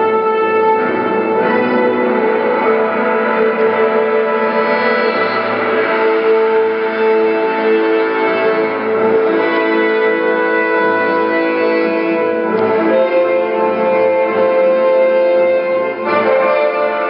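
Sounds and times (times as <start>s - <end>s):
sustained instrumental chords: 0.0s - 17.0s.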